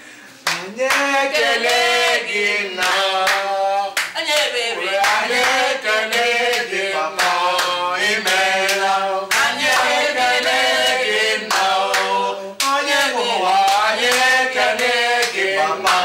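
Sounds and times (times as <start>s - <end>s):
group singing: 0.3s - 16.0s
hand clapping: 0.4s - 16.0s.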